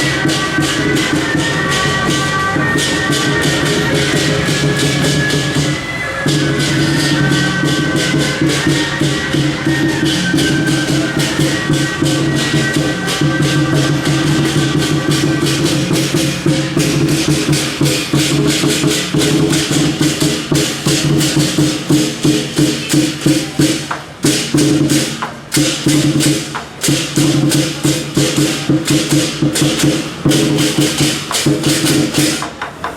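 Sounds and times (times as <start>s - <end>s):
fast percussion strokes: 0.0s - 32.9s.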